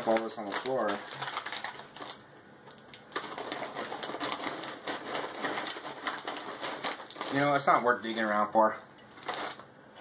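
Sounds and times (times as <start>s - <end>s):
popcorn shifting in bag: 0.0s - 9.6s
plastic bag crinkling: 0.0s - 9.7s.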